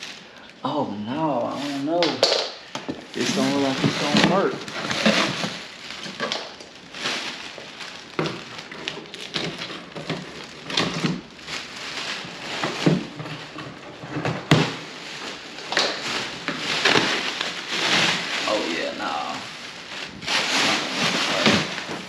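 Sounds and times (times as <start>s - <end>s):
plastic packing film crinkling: 0.0s - 22.0s.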